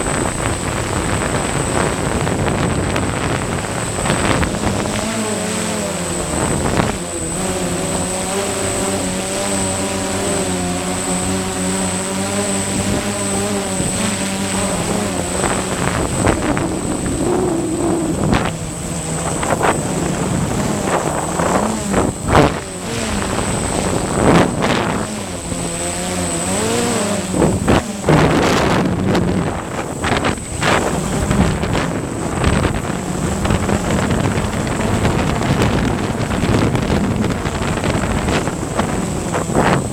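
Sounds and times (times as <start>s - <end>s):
drone propellers whining: 0.0s - 39.9s
wind gusts buffeting microphone: 0.0s - 39.9s.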